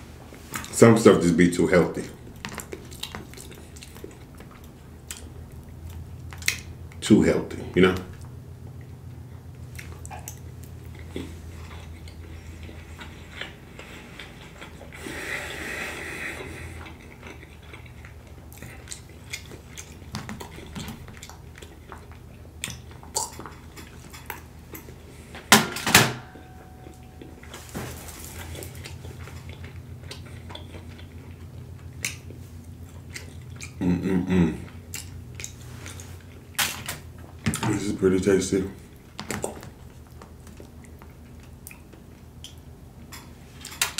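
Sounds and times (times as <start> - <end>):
soft chewing: 0.0 - 0.8, 1.7 - 7.0, 7.6 - 25.5, 26.3 - 43.9
low steady hum: 0.0 - 43.9.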